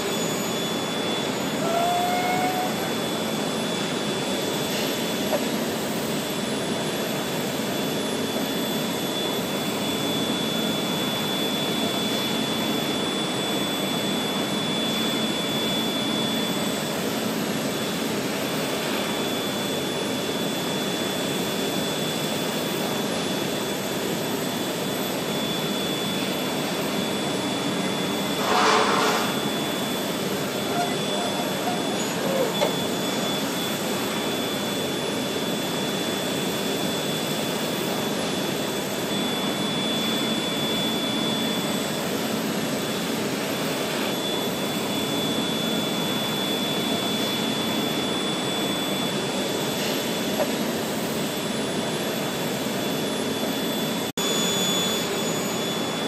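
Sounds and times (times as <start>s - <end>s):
boiler furnace roar: 0.0s - 56.0s
high whine: 0.0s - 56.0s.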